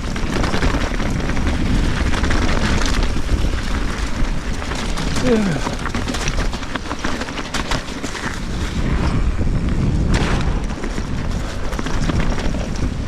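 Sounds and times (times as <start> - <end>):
bike clicks and rattles: 0.0 - 13.0
wind buffeting microphone: 0.0 - 13.0.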